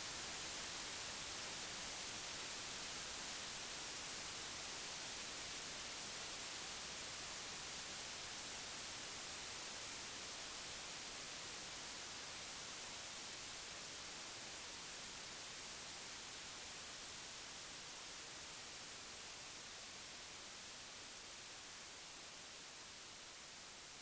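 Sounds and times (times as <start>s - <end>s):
television static hiss: 0.0s - 24.0s.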